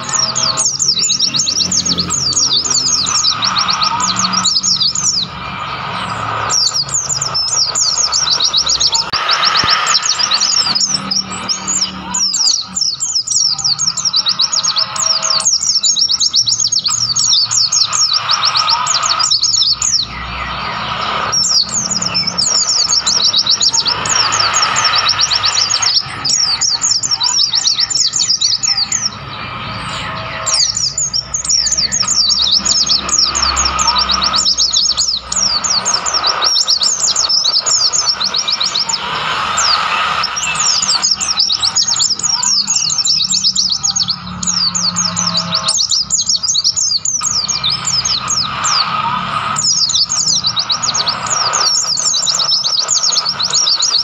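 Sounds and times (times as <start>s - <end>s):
birds twittering chirps: 0.0s - 54.0s
steady rushing background: 0.0s - 54.0s.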